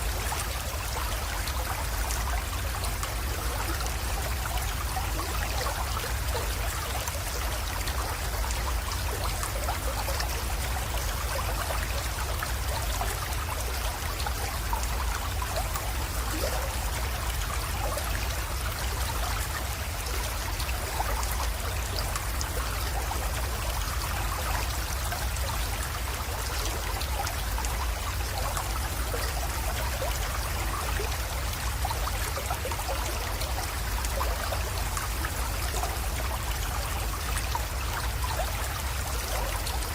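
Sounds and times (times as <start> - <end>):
creek water trickling into pond: 0.0 - 39.9.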